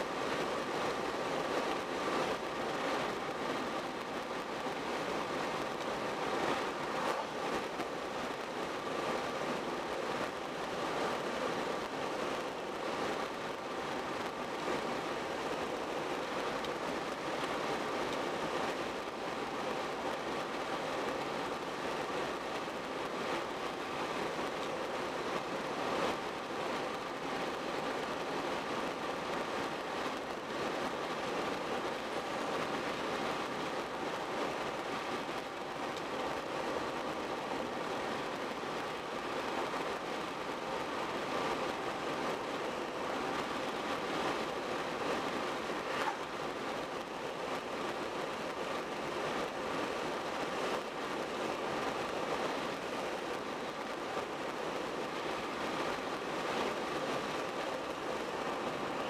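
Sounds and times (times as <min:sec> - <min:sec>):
tyre and wind hiss: 0:00.0 - 0:59.0.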